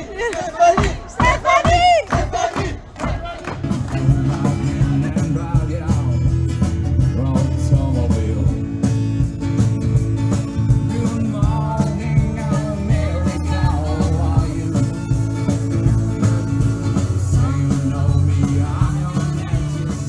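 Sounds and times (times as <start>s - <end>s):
live country band playing: 3.5s - 20.0s.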